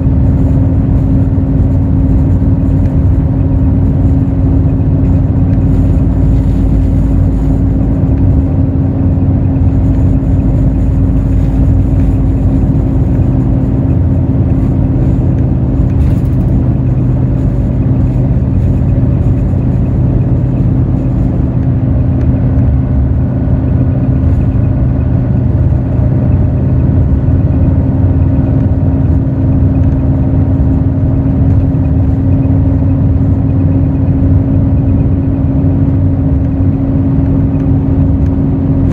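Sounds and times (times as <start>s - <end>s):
diesel engine running: 0.0s - 38.9s
road rumble: 0.0s - 38.9s.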